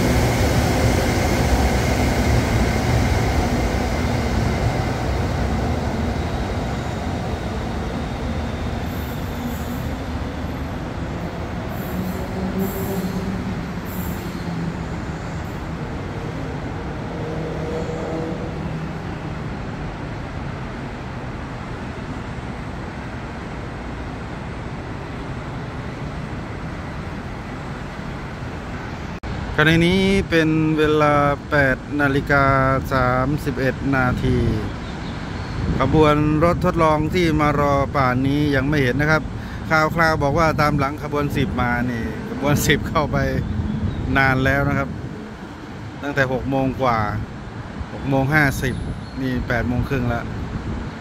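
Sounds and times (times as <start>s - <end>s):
train rumbling along rails: 0.0s - 51.0s.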